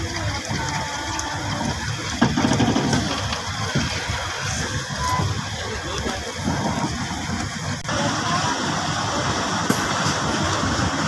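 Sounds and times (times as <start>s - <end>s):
train wheels rumbling on rails: 0.0s - 11.0s
rushing air: 1.4s - 11.0s.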